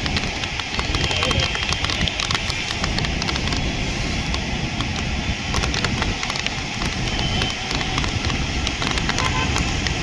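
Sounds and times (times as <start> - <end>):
heavy rain falling: 0.0 - 10.0
low rumble of street traffic: 0.0 - 10.0
sharp ticks of raindrops: 0.0 - 10.0.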